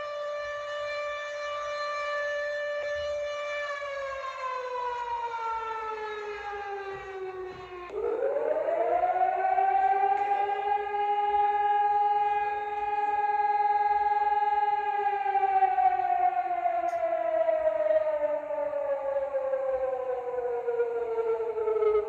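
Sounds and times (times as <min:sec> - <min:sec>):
falling siren tone: 0:00.0 - 0:22.0.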